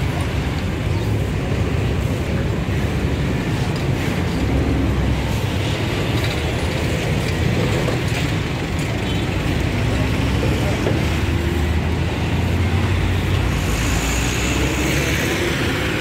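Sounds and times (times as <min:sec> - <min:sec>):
street noise: 0:00.0 - 0:16.0
vehicle engine rumble: 0:00.0 - 0:16.0.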